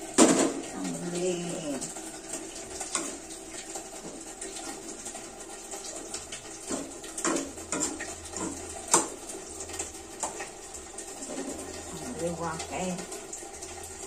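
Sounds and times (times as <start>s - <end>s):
sauce sizzling in a wok: 0.0s - 14.0s.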